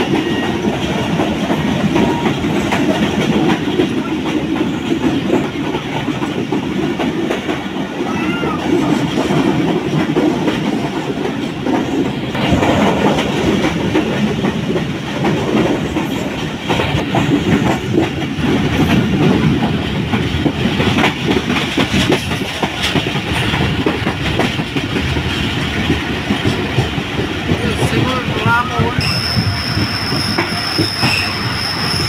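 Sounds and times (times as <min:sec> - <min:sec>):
train wheels clattering over rail joints: 0:00.0 - 0:08.0, 0:08.6 - 0:32.0
train rumbling: 0:00.0 - 0:32.0.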